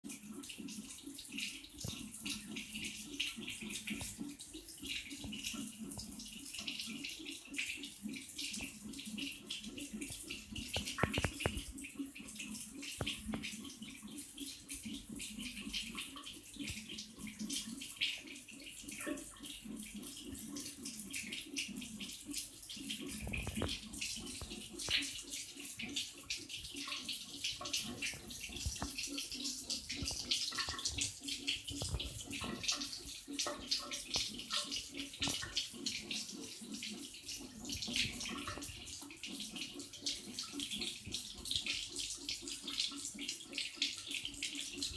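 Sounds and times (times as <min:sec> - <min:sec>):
tap water spattering: 0:00.3 - 0:44.9.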